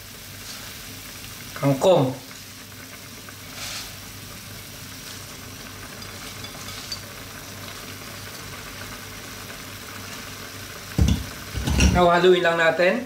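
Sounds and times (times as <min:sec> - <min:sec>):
sauce bubbling and sizzling in a wok: 0:00.0 - 0:13.0.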